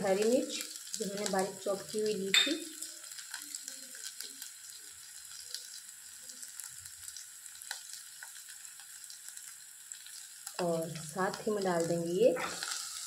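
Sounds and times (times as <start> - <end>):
chillies sizzling in hot ghee: 0.0 - 13.0.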